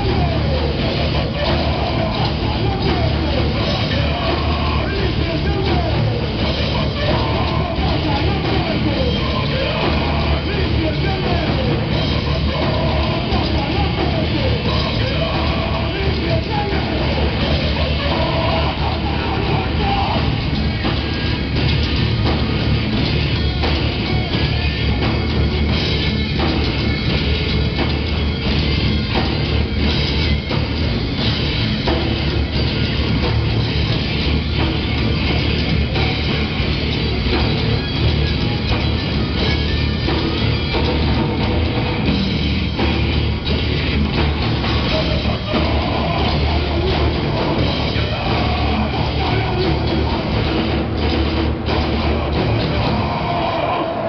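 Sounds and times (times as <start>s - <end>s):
bass guitar: 0.0s - 54.0s
drum kit: 0.0s - 54.0s
electric guitars: 0.0s - 54.0s
live rock band playing: 0.0s - 54.0s.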